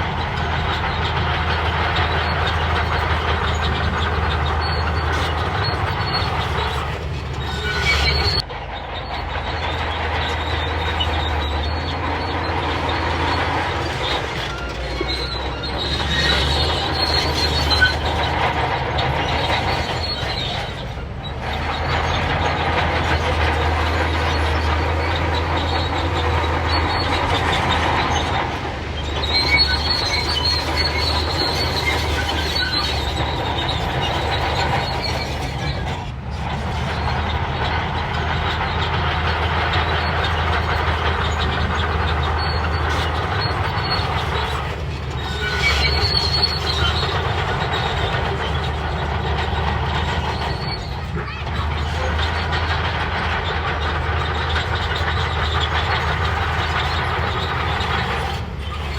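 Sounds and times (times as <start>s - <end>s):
diesel engine under load: 0.0s - 58.9s
steel tracks squealing and clattering: 0.0s - 58.9s.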